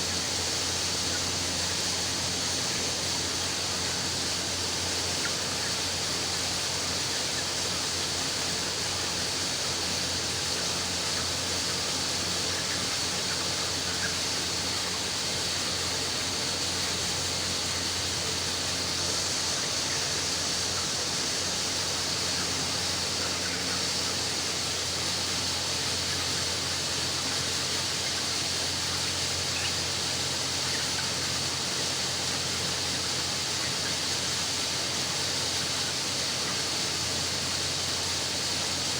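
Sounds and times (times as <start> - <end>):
constant low hum: 0.0 - 38.9
even hiss: 0.0 - 38.9.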